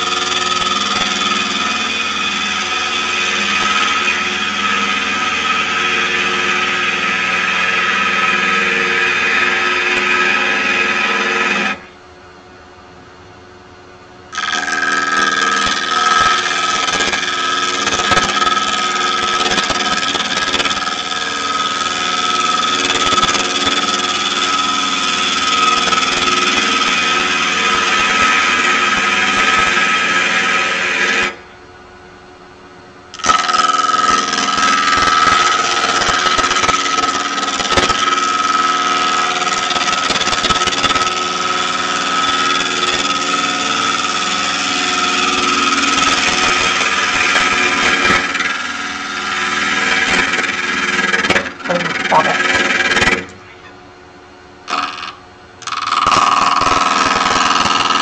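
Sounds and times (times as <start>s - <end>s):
gouge cutting wood on lathe: 0.0s - 11.8s, 14.3s - 31.4s, 33.2s - 53.3s, 54.7s - 58.0s
lathe running: 0.0s - 11.9s, 14.3s - 31.4s, 33.2s - 53.7s, 54.7s - 58.0s.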